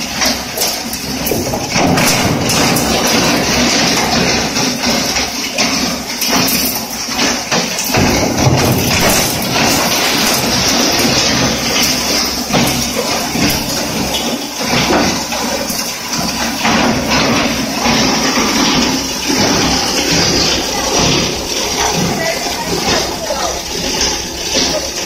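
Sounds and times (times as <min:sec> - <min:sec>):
bone crusher machine running: 0:00.0 - 0:25.0
clattering knocks: 0:00.2 - 0:25.0.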